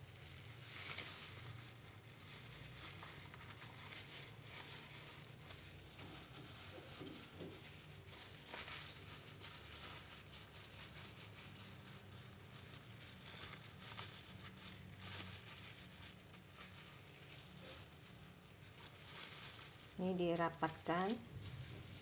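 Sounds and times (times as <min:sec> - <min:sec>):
leaf and plastic glove rustling: 0:00.0 - 0:22.0.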